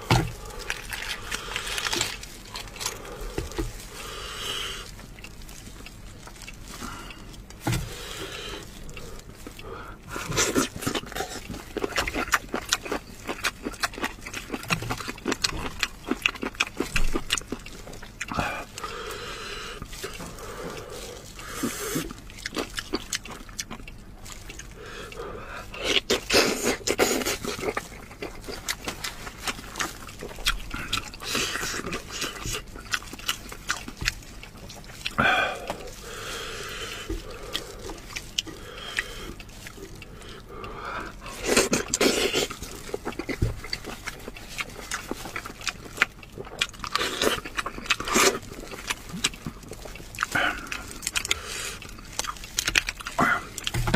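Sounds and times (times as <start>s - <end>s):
wet sucking and chewing: 0.0s - 53.9s.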